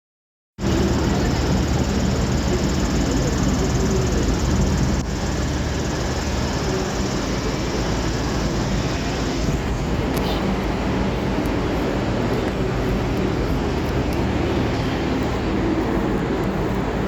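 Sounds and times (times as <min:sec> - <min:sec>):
constant low hum: 0:00.6 - 0:17.0
train engines rumbling: 0:00.6 - 0:17.0.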